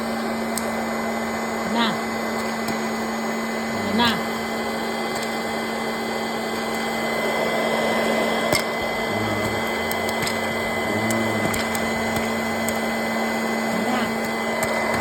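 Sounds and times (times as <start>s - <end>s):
popcorn maker whirring: 0.0s - 15.0s.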